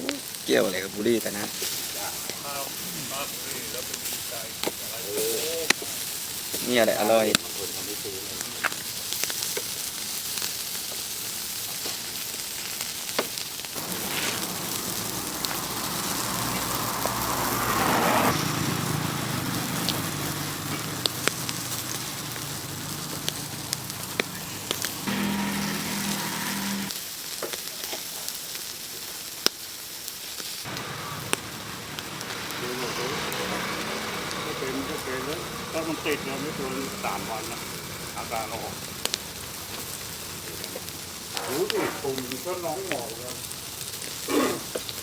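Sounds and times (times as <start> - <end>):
chicken sizzling on a grill: 0.0 - 45.0
crackles and pops: 0.0 - 45.0.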